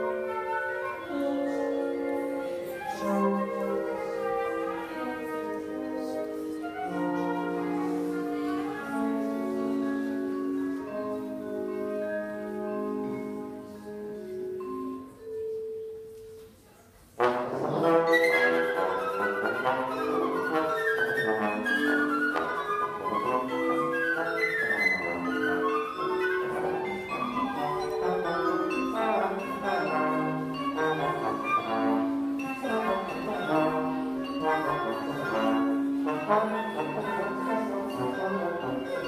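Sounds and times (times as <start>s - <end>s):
trombone melody: 0.0s - 13.5s, 17.2s - 39.0s
flute: 0.0s - 13.9s, 17.8s - 39.0s
marimba: 0.0s - 39.0s.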